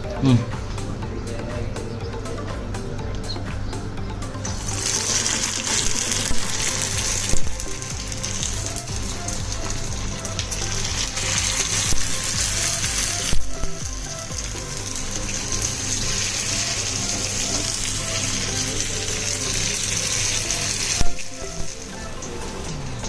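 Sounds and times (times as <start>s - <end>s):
background music: 0.0s - 23.0s
food deep-frying in oil: 4.4s - 22.9s.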